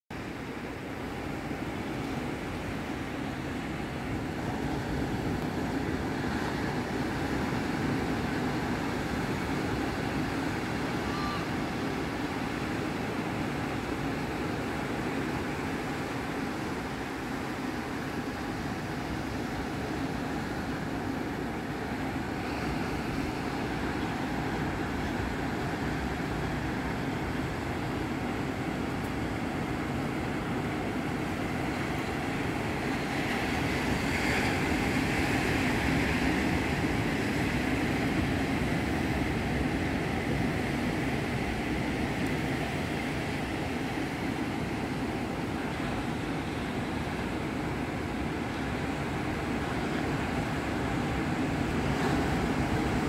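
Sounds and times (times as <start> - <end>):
ocean surf breaking on a beach: 0.2 - 53.0.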